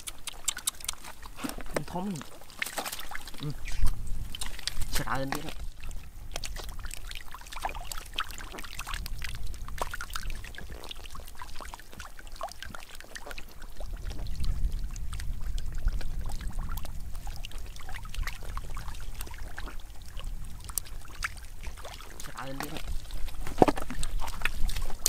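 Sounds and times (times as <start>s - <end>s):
fish splashing in mud: 0.0s - 25.0s.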